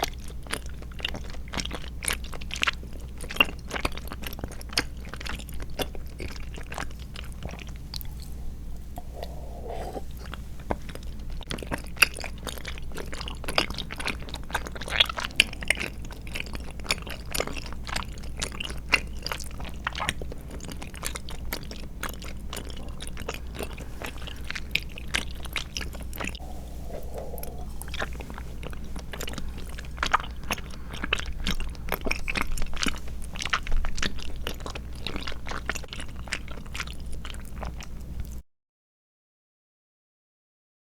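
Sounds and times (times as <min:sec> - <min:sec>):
wet chewing clicks and squishes: 0:00.0 - 0:09.0, 0:10.2 - 0:26.4, 0:27.4 - 0:38.4.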